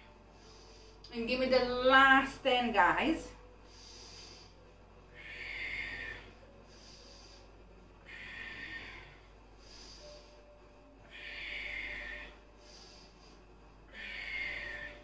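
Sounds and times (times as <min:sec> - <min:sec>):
person breathing powerfully: 0:00.0 - 0:01.0, 0:03.6 - 0:15.0.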